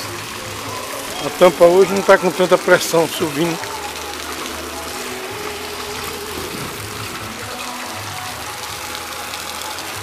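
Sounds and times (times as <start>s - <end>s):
faint music: 0.0s - 10.0s
floodwater rushing over street: 0.0s - 10.0s.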